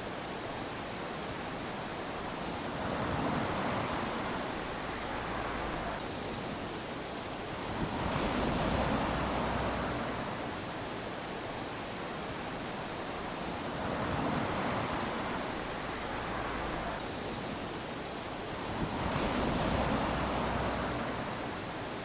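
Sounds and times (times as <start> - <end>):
small waves lapping on sand: 0.0 - 22.0.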